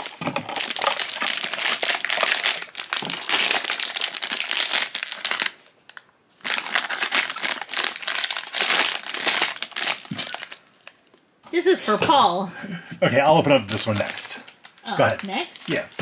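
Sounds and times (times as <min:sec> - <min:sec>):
foil bag crinkling: 0:00.0 - 0:11.2, 0:13.5 - 0:16.0.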